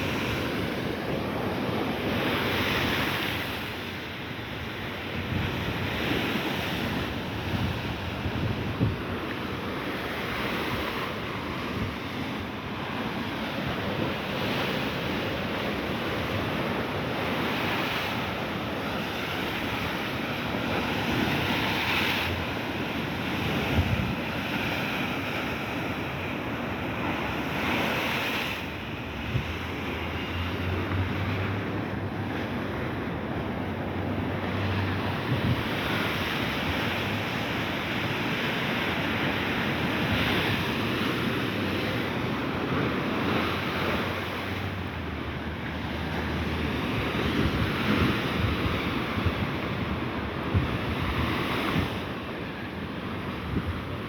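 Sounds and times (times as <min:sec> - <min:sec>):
sea waves breaking on shore: 0:00.0 - 0:54.0
wind buffeting microphone: 0:04.6 - 0:54.0.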